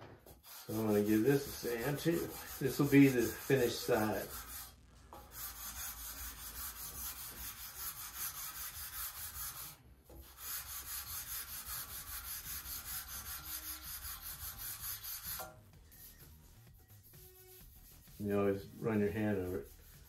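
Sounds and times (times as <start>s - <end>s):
sanding block scratching wood: 0.2s - 20.0s.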